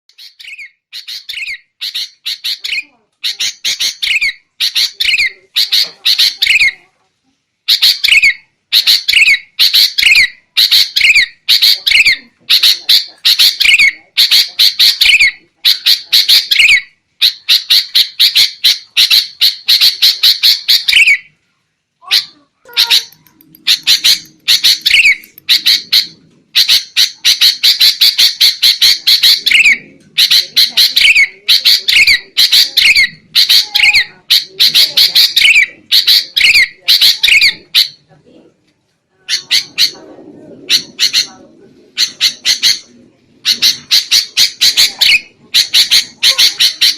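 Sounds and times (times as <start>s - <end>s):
bulbul chattering calls: 0.1s - 6.8s, 7.7s - 21.3s, 22.0s - 38.1s, 39.3s - 46.9s.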